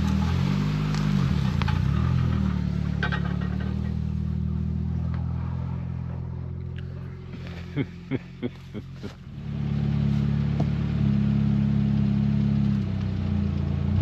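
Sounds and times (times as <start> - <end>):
tractor diesel engine running unevenly: 0.0 - 14.0.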